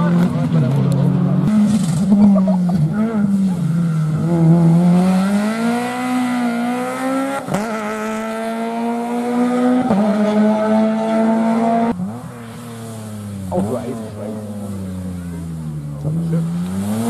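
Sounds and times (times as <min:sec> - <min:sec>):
rally car engine revving high: 0:00.0 - 0:17.0.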